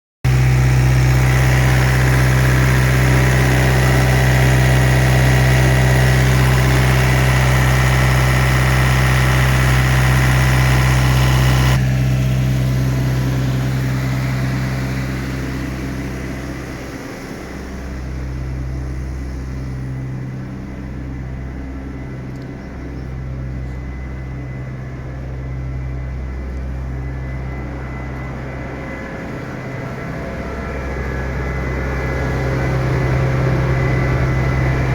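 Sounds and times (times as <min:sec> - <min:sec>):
truck diesel engine idling: 0:00.3 - 0:34.9.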